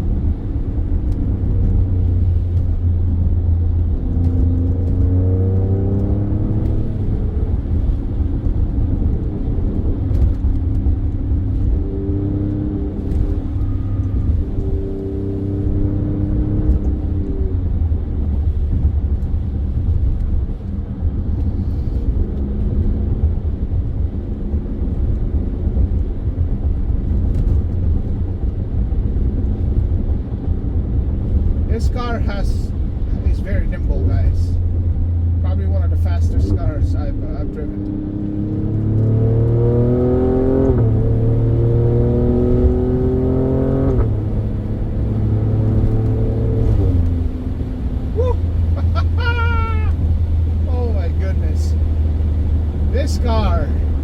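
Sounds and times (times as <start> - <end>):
car engine under load: 0.0 - 54.0.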